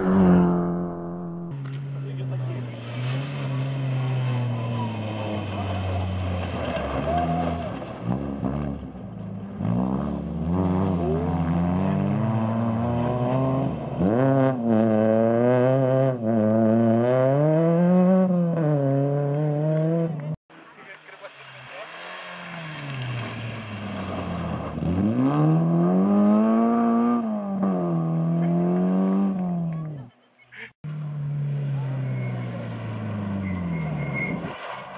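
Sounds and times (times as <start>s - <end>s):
rally car engines revving: 0.0s - 30.2s, 30.9s - 34.9s.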